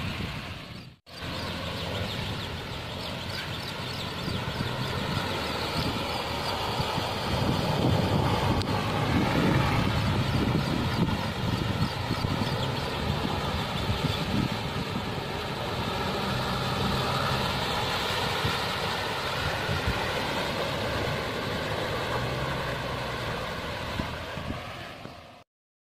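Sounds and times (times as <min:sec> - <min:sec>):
diesel engine running: 0:00.0 - 0:25.2
water churned by tyres: 0:00.0 - 0:25.4.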